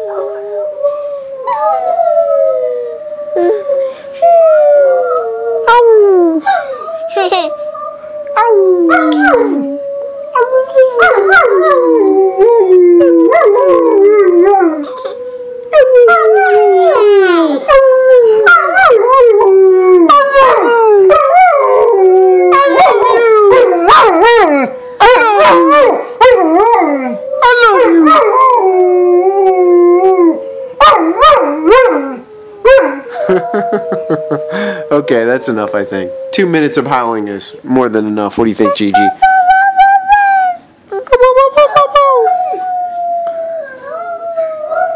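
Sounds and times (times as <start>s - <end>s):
children howling: 0.0s - 14.9s, 15.6s - 36.9s, 41.3s - 44.9s
dog howling: 0.0s - 14.9s, 15.6s - 36.8s, 41.6s - 44.9s.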